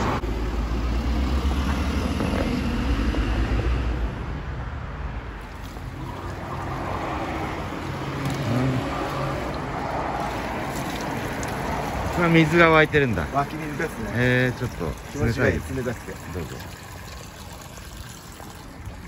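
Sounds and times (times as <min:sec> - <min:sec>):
cars passing on street: 0:00.0 - 0:19.0.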